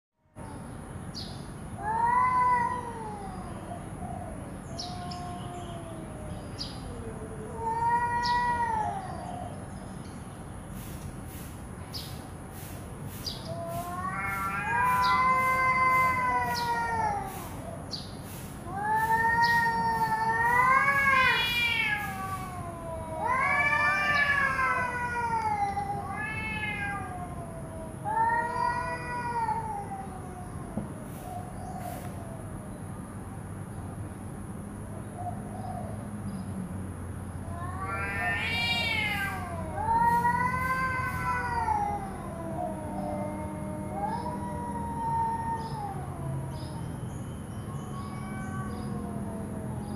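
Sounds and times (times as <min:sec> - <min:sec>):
cats yowling: 0:01.8 - 0:10.0, 0:13.3 - 0:32.6, 0:37.4 - 0:49.9.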